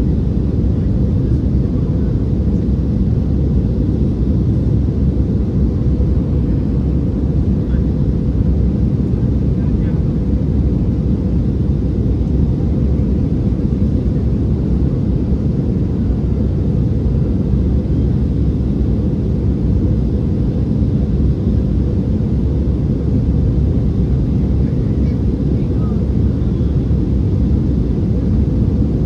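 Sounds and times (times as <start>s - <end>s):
jet engine cabin rumble: 0.0s - 29.0s.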